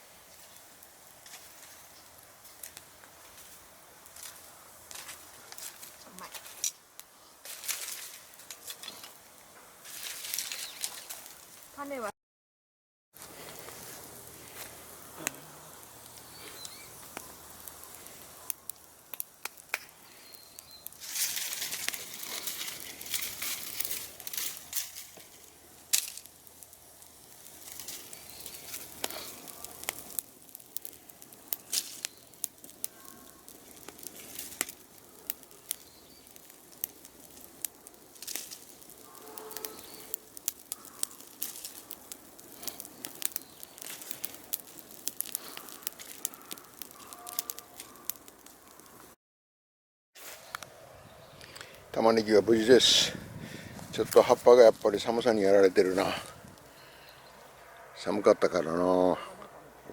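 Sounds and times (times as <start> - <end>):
dry plant material crackling: 0.0 - 12.1, 13.2 - 49.2, 50.2 - 59.2.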